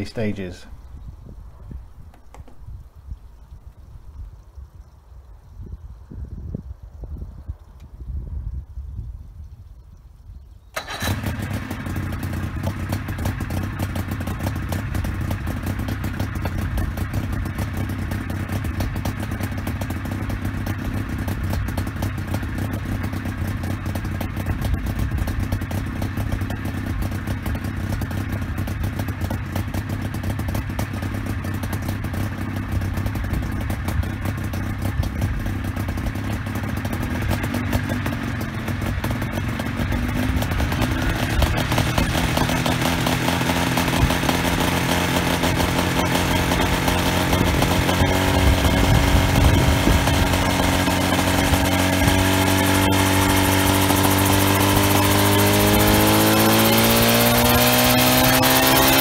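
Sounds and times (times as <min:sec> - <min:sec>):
helicopter engine running: 0:10.8 - 0:59.0.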